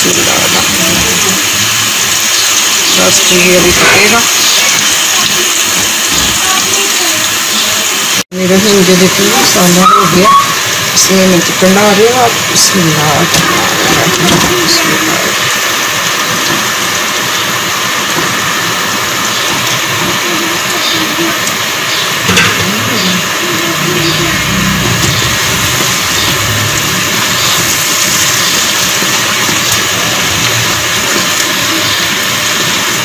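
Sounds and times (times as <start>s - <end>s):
chicken frying in oil: 0.0s - 33.0s.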